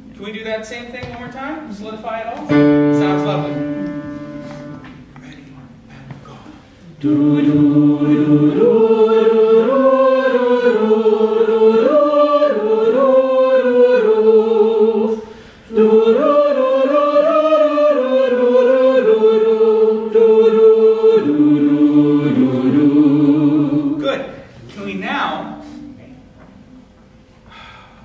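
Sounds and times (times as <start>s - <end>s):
choir singing a cappella: 2.6s - 5.2s, 5.8s - 26.0s.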